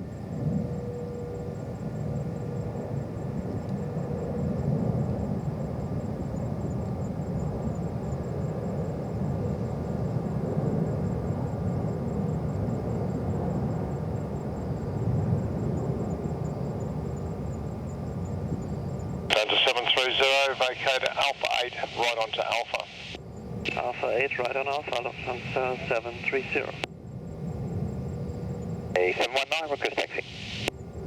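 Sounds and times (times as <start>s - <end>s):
distant jet engine rumble: 0.0s - 31.0s.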